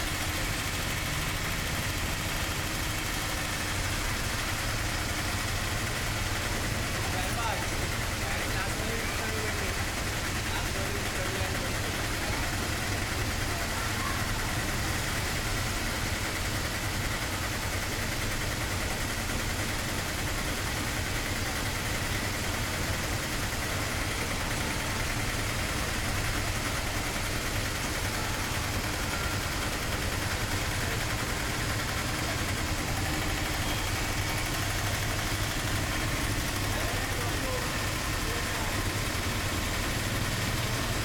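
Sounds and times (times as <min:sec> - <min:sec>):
auto-rickshaw engines idling: 0:00.0 - 0:41.0.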